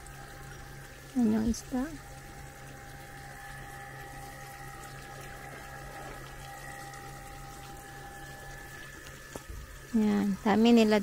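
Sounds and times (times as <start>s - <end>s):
faint low hum: 0.0s - 11.0s
running water: 0.0s - 11.0s.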